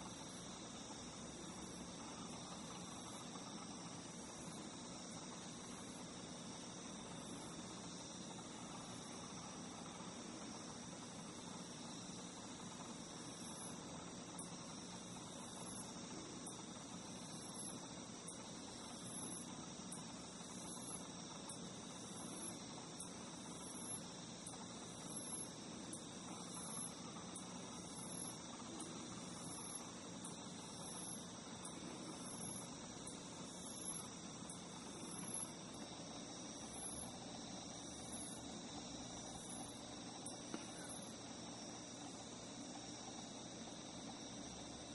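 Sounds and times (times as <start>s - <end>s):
crickets trilling: 0.0s - 44.9s
high pulsed insect call: 0.0s - 44.9s.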